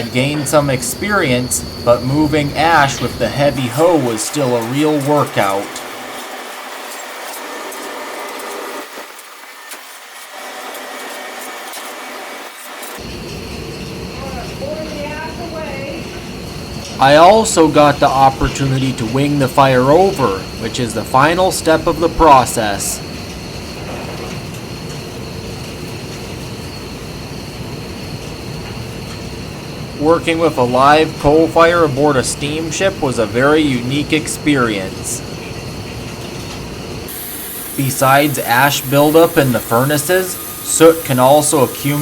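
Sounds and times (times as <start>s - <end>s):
boiler room machinery noise: 0.0s - 42.0s.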